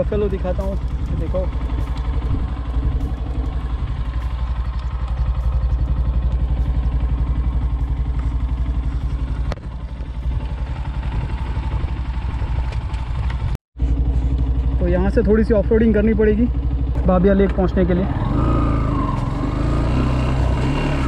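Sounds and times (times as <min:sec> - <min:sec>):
motorcycle engine idling: 0:00.0 - 0:19.7.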